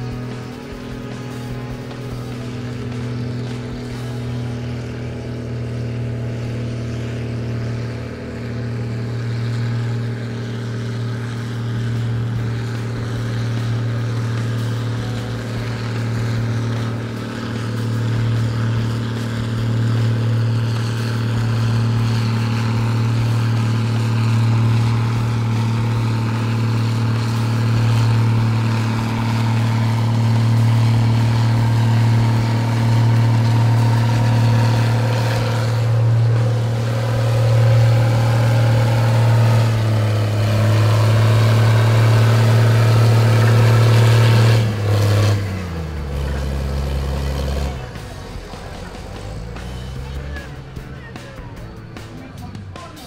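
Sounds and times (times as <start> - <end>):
tractor diesel engine running hard: 0.0 - 53.0.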